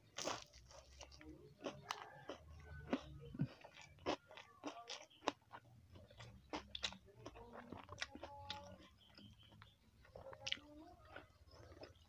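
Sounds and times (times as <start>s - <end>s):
crunching and chewing food: 0.0s - 12.0s.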